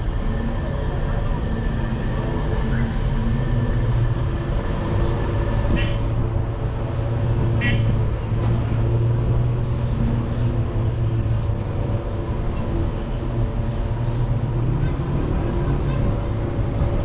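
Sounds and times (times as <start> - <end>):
car engine and road drone: 0.0 - 17.0.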